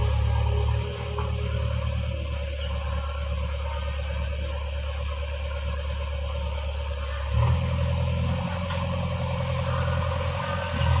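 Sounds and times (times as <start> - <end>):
diesel engine running and revving: 0.0 - 11.0.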